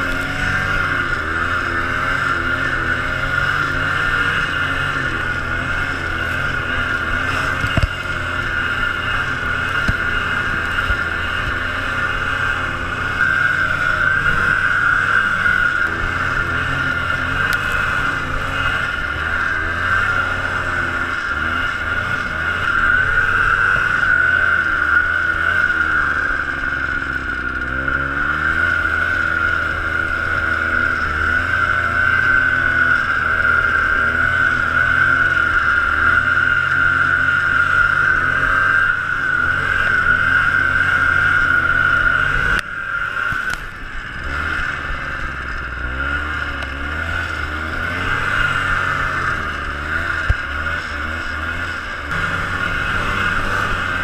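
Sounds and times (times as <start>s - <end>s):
high whine: 0.0s - 54.0s
snowmobile engine running: 0.0s - 54.0s.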